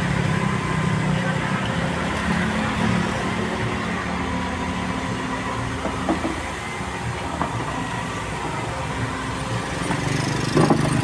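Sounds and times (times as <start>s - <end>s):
diesel engine drone: 0.0s - 11.0s.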